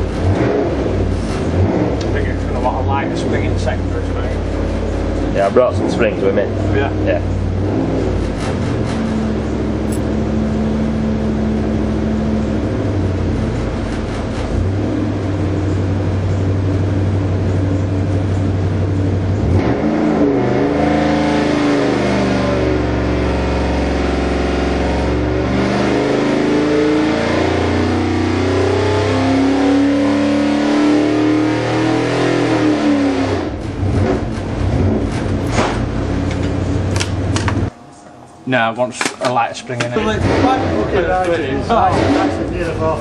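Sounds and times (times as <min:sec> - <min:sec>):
engine revving on a dyno: 0:00.0 - 0:37.8, 0:39.9 - 0:43.0.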